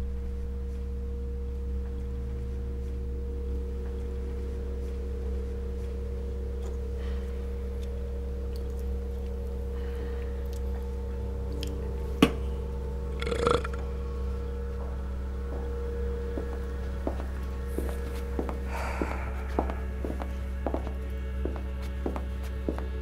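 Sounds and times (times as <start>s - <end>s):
low drone: 0.0s - 23.0s.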